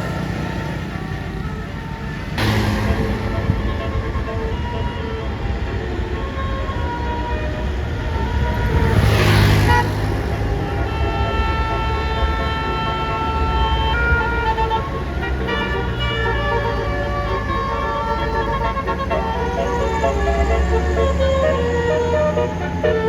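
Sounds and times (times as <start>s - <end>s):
low rumble of bus engine: 0.0s - 23.0s
bus horn playing a melody: 1.2s - 23.0s
loud rushing noise: 2.2s - 21.6s.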